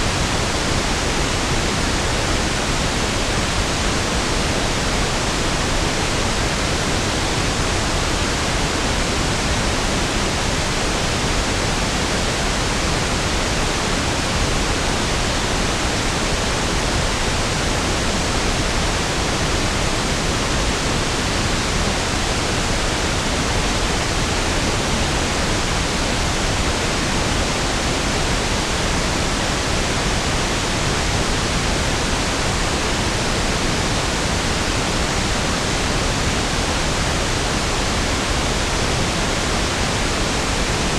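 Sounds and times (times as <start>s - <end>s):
steady pink noise hiss: 0.0s - 40.9s.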